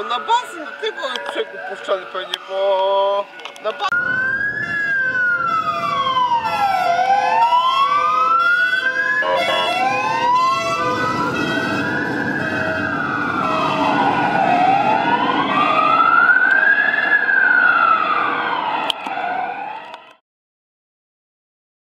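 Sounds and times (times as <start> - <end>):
ambulance siren wailing: 0.0 - 20.2
engine and road noise: 0.0 - 20.2.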